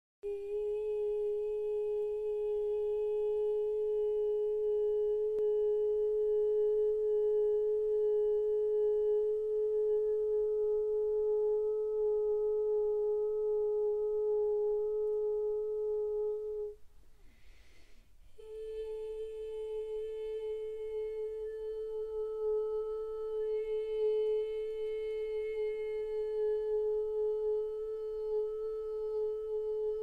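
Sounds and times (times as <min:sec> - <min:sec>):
woman toning a long note: 0:00.2 - 0:16.8, 0:18.4 - 0:30.0.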